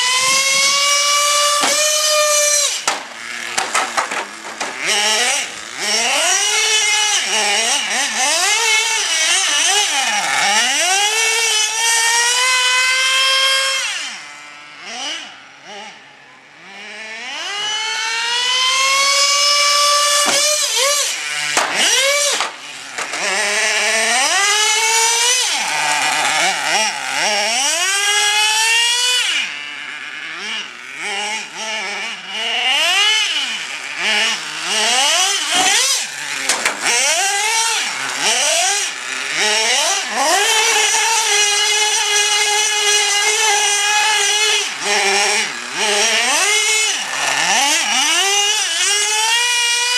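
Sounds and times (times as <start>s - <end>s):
small two-stroke engine revving: 0.0s - 49.9s.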